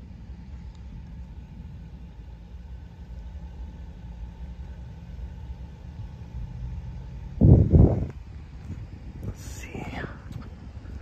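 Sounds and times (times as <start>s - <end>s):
engine running low pitch: 0.0s - 11.0s.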